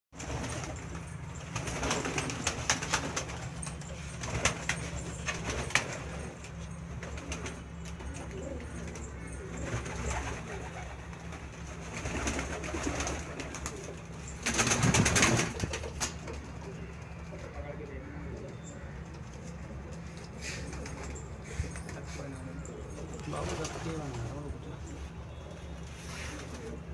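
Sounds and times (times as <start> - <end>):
pigeons cooing: 0.2 - 26.9.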